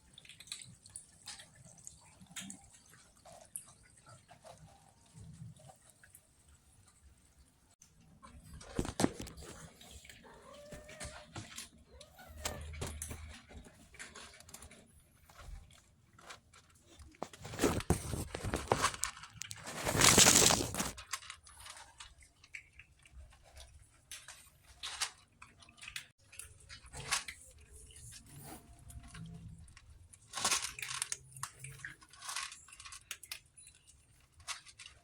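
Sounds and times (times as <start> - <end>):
cats crunching dry kibble: 0.0 - 6.1, 7.9 - 35.0.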